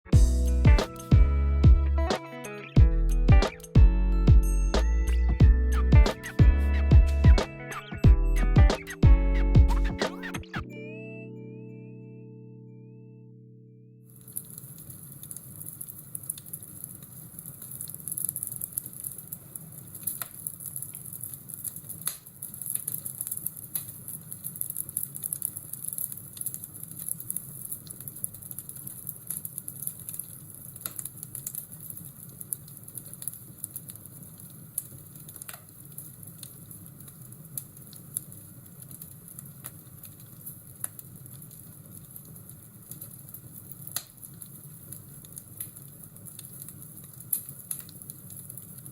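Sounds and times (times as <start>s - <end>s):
fire crackling: 0.0s - 10.6s, 14.1s - 48.9s
fire popping: 4.8s - 10.6s, 14.1s - 48.9s.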